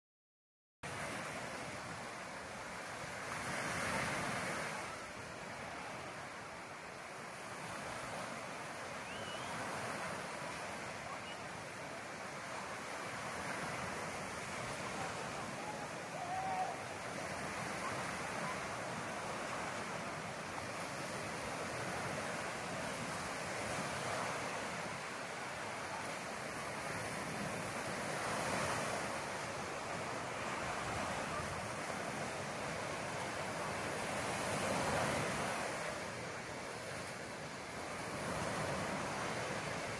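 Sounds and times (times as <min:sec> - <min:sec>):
waves washing on shore: 0:00.8 - 0:39.9.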